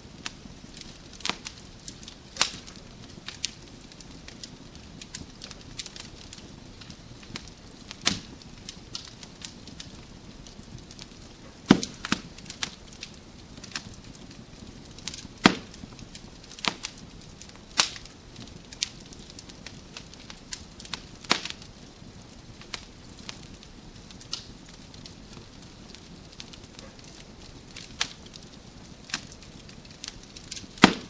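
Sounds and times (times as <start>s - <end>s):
soft steady hiss of fire: 0.0s - 31.0s
wood fire crackling and popping: 0.0s - 31.0s.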